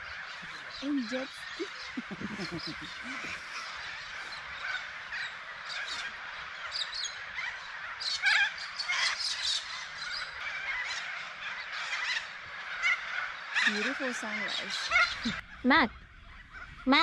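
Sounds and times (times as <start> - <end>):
birds chirping in chorus: 0.0 - 17.0
loud bird call: 0.0 - 17.0.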